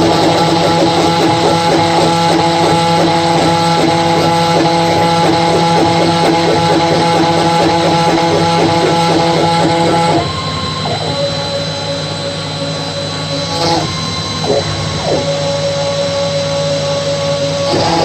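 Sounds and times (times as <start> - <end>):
router spindle running: 0.0 - 18.0
stepper motors whining: 0.0 - 18.0.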